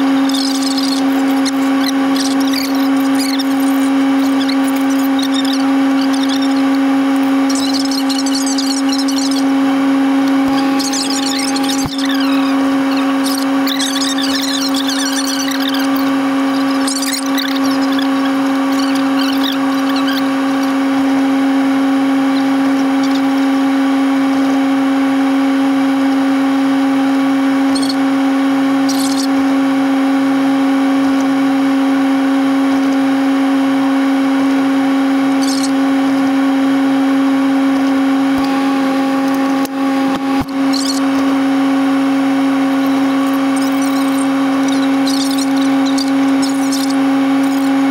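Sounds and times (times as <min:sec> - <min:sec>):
droning hum in vehicle cab: 0:00.0 - 0:47.9.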